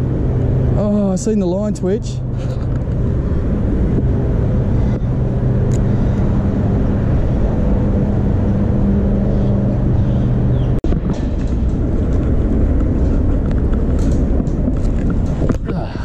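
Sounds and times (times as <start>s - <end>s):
busy road traffic: 0.0s - 16.0s
low engine hum: 0.0s - 16.0s.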